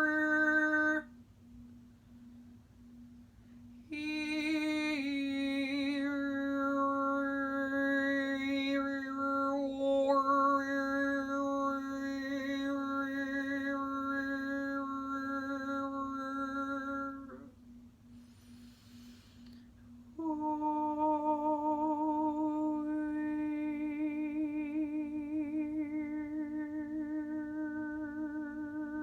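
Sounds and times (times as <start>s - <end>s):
woman singing overtone note: 0.0s - 1.2s, 3.9s - 17.6s, 20.1s - 29.0s.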